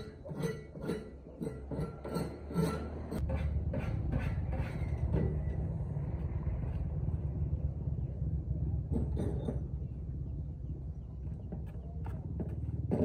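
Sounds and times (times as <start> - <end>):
heavy machinery rumbling: 1.4 - 13.0.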